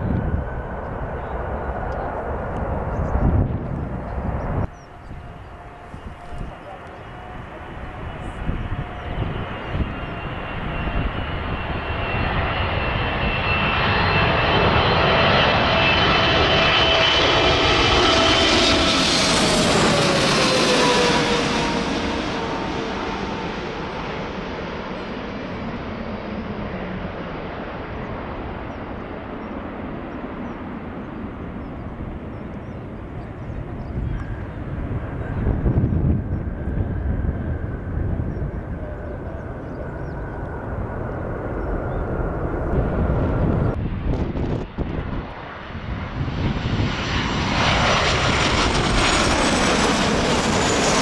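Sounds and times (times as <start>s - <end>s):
jet engine noise: 0.0s - 51.0s.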